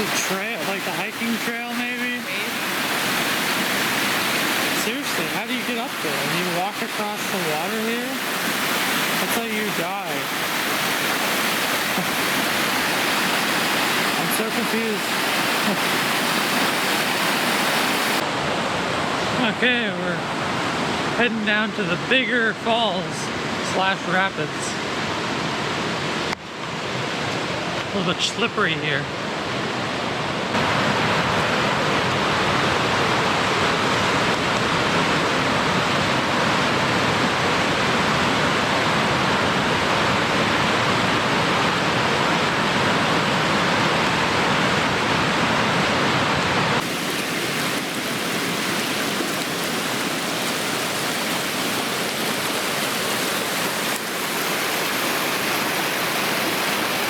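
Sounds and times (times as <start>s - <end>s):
whitewater rushing roar: 0.0s - 21.2s, 30.5s - 57.0s.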